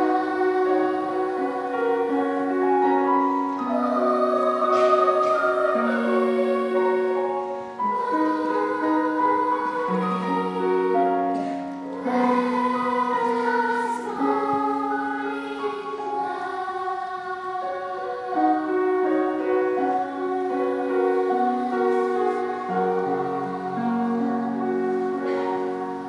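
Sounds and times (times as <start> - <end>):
girls' choir singing: 0.0 - 26.0.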